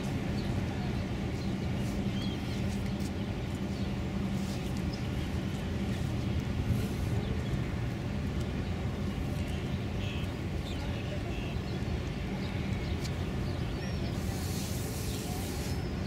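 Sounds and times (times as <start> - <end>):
ship engines droning: 0.0 - 16.0.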